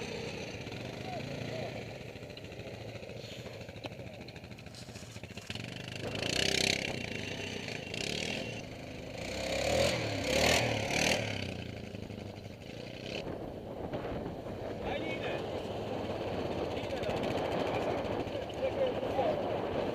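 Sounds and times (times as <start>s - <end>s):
quad bike engines revving: 0.0s - 19.9s.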